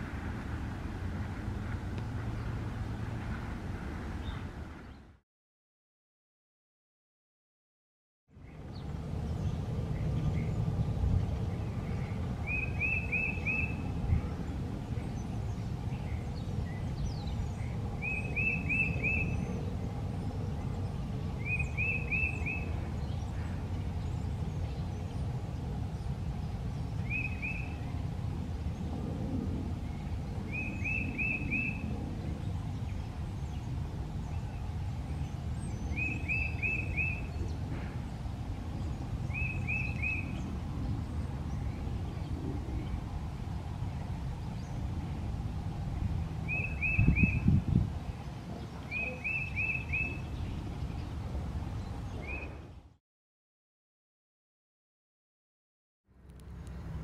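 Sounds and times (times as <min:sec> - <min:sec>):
steady low rumble: 0:00.0 - 0:05.2, 0:08.3 - 0:53.0.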